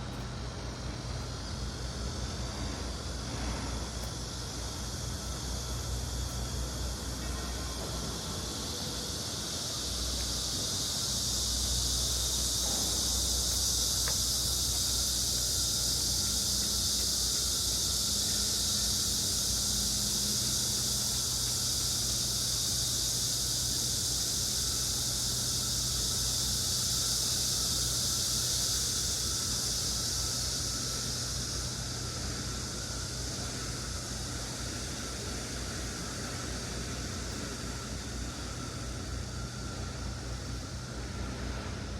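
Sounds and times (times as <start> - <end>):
high-pitched hiss of stream: 0.0 - 41.9
low hum of city traffic: 0.0 - 41.9.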